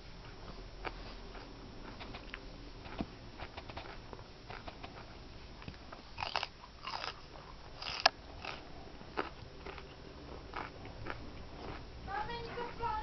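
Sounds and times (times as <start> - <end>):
tortoise crunching greens: 0.8 - 11.9.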